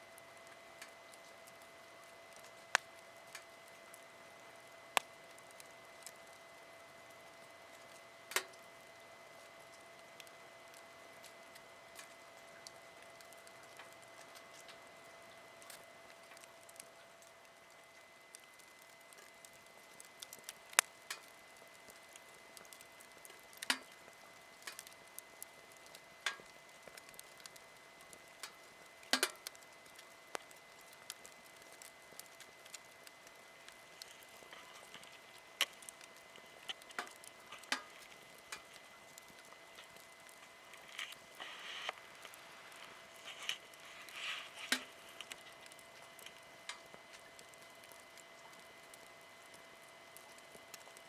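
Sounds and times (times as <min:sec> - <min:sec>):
fire hissing and sizzling: 0:00.0 - 0:51.0
wood fire crackling: 0:00.0 - 0:51.0.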